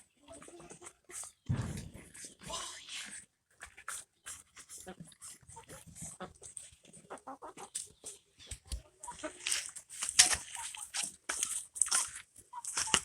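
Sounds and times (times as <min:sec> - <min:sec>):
chickens clucking: 0:00.0 - 0:13.0
sharp clicks and scratches: 0:00.4 - 0:13.0.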